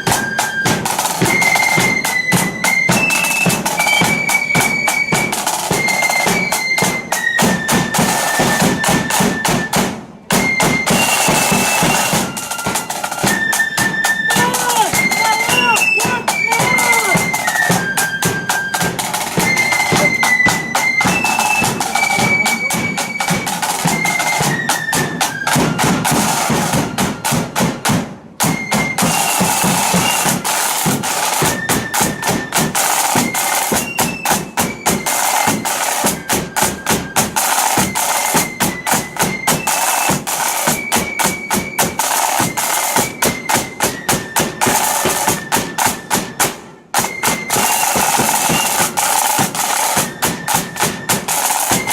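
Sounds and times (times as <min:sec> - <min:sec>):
high flutes playing a march: 0:00.0 - 0:51.9
snare drumming: 0:00.0 - 0:51.9.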